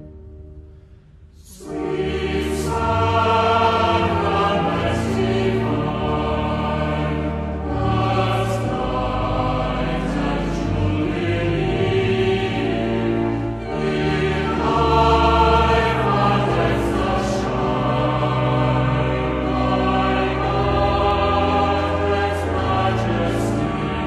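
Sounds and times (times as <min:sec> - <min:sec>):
choir singing a slow hymn: 0:01.4 - 0:24.0.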